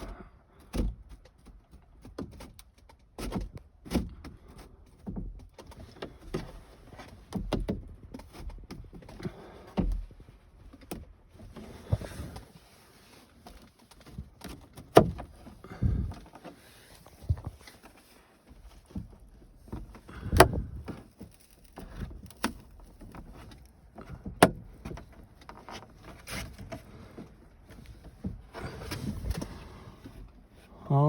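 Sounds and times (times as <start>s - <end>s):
plastic trim knocking and scraping: 0.6s - 12.4s, 13.5s - 18.0s, 18.8s - 30.2s.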